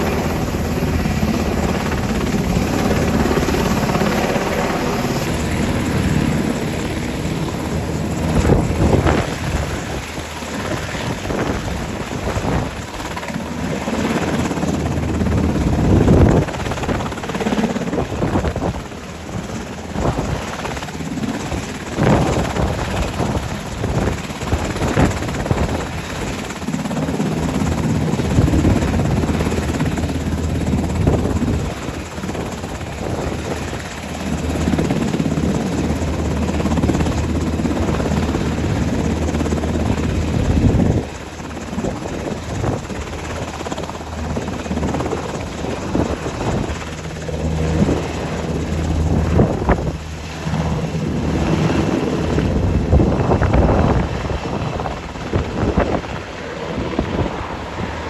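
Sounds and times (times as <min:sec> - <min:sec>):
helicopter rotor drone: 0:00.0 - 0:58.0.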